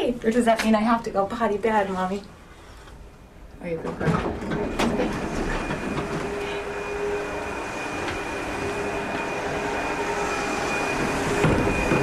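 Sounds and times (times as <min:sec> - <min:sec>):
constant high whine: 0:00.0 - 0:12.0
mechanical hum and rumble: 0:00.0 - 0:12.0.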